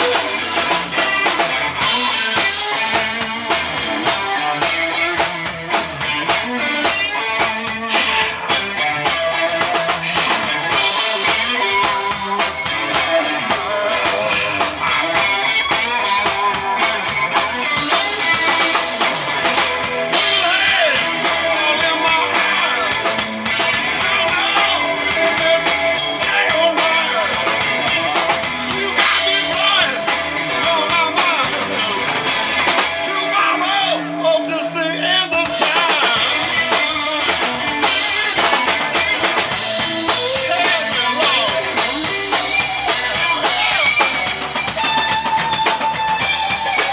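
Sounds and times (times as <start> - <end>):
drum kit: 0.0 - 46.9
electric bass: 0.0 - 46.9
electric guitar: 0.0 - 46.9.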